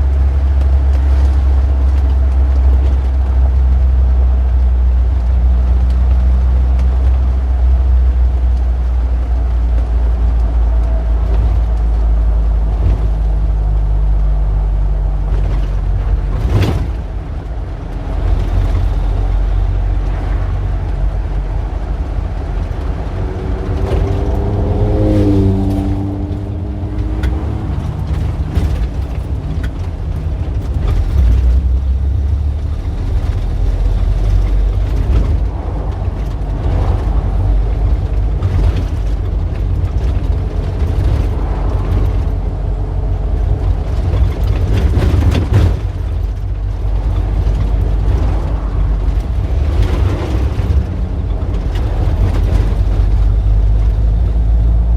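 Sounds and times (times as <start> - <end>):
cars passing: 0.0 - 54.9
vehicle engine hum: 0.0 - 54.9.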